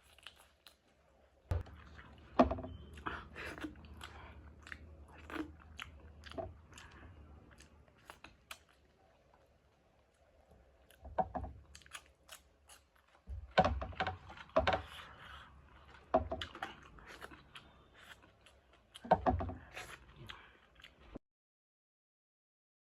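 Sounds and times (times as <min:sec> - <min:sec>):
chewing and crunching food: 0:00.0 - 0:21.2.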